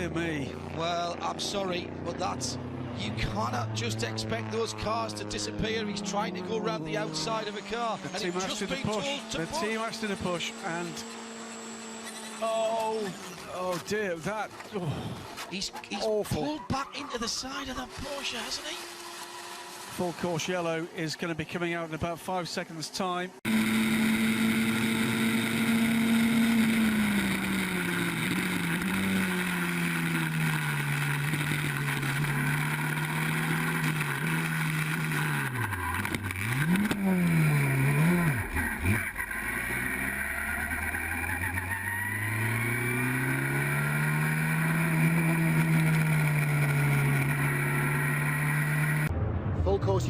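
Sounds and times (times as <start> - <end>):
race car engine running: 0.0 - 16.0, 17.3 - 22.0, 23.5 - 49.1.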